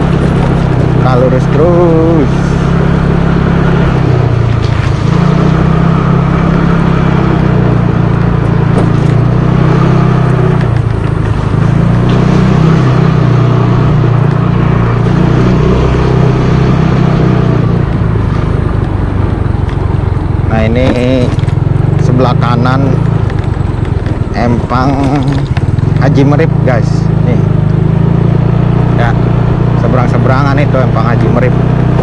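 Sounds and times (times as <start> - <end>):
scooter engine running: 0.0 - 32.0.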